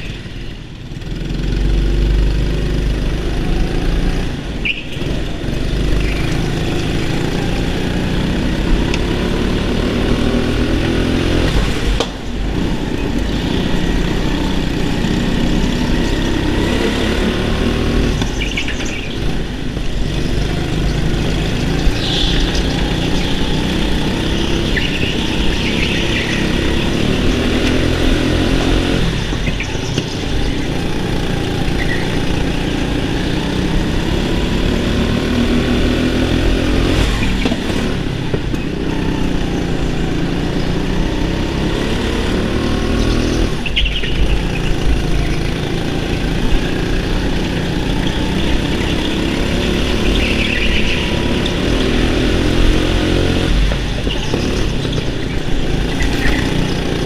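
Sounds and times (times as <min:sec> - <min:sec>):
go-kart engine accelerating: 0:00.0 - 0:57.0.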